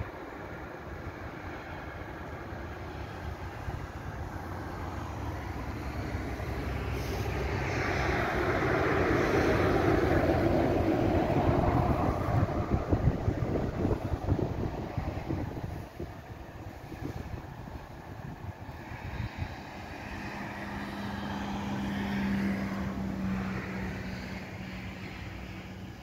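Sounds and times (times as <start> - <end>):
vehicle passing by: 0.0 - 26.0
wind buffeting microphone: 0.0 - 26.0.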